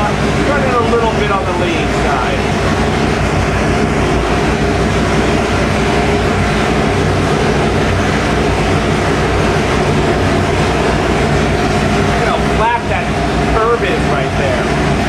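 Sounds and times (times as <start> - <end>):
supercharged engine running steadily: 0.0 - 15.0.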